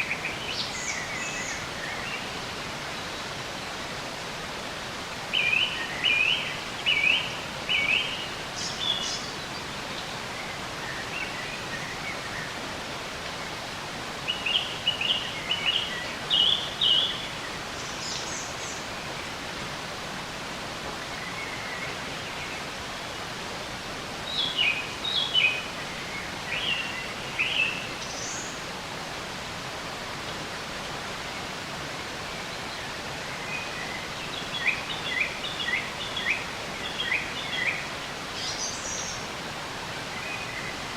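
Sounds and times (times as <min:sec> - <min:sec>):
background hiss: 0:00.0 - 0:40.9
songbirds chirping: 0:00.0 - 0:40.9.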